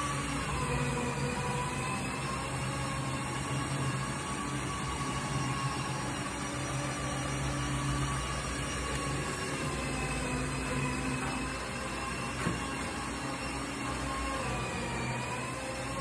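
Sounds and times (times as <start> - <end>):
faint whining tones: 0.0 - 16.0
plumbing installation humming: 0.0 - 16.0.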